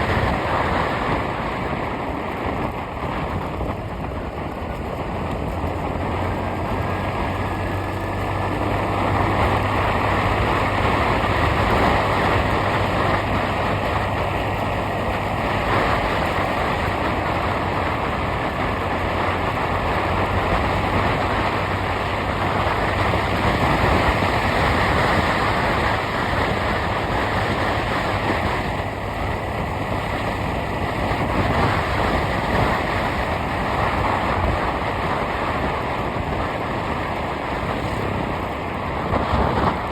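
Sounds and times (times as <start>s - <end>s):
moving road vehicle: 0.0s - 39.9s.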